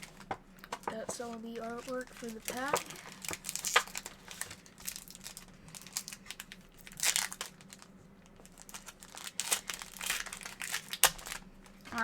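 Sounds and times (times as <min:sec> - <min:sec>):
card packaging crinkling: 0:00.0 - 0:12.0.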